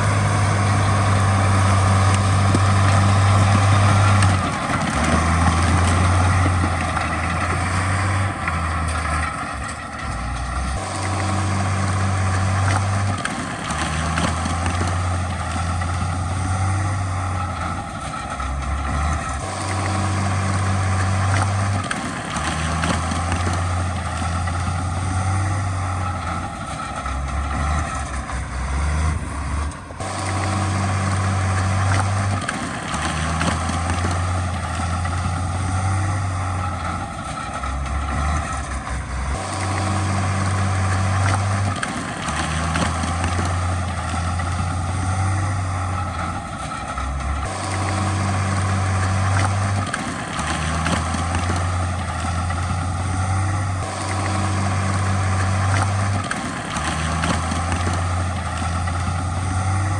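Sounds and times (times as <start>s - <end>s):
diesel machinery engine drone: 0.0s - 59.9s
machinery clatter: 0.0s - 59.9s.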